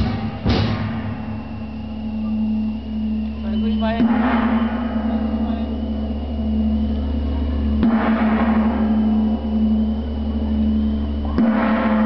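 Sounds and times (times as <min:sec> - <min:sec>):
large gong ringing: 0:00.0 - 0:12.0.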